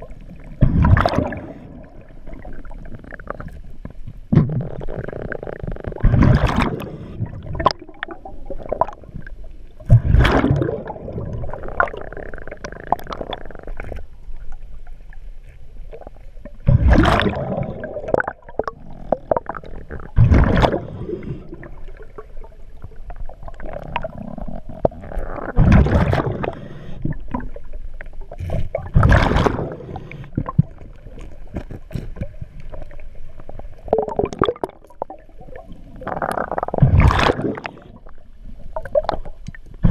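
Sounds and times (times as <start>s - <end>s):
regulator bubbles gushing: 0.0s - 14.8s, 15.8s - 39.9s.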